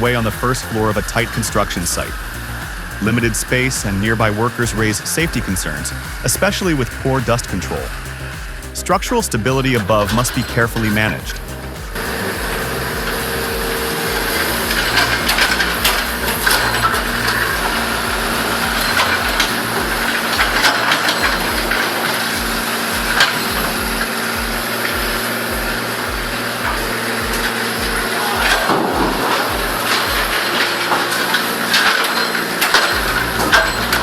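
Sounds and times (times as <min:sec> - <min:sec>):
heavy machine engine running: 0:00.0 - 0:34.0
low pulsing: 0:00.0 - 0:34.0.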